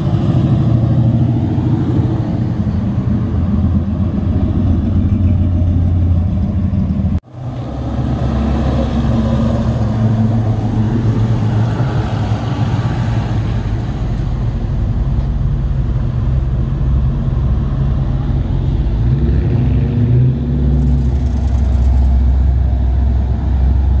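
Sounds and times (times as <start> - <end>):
car engines rumbling: 0.0 - 24.0.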